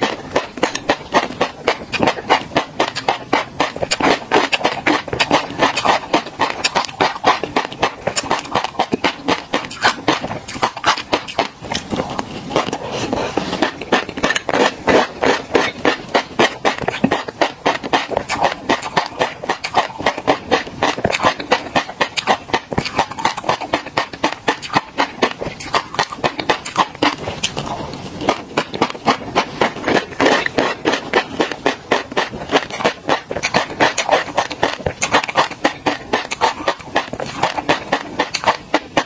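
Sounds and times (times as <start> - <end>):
fish roe popping while chewed: 0.0 - 39.0.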